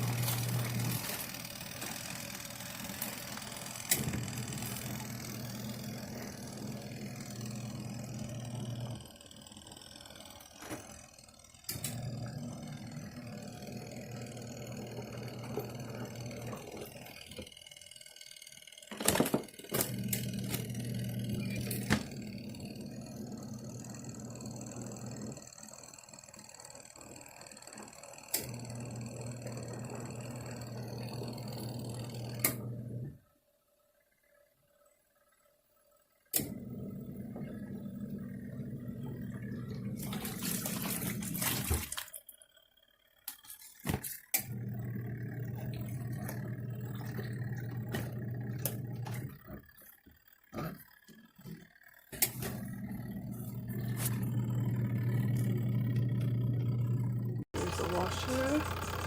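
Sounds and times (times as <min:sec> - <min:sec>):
washing machine motor humming: 0:00.0 - 0:33.3, 0:36.2 - 0:59.0.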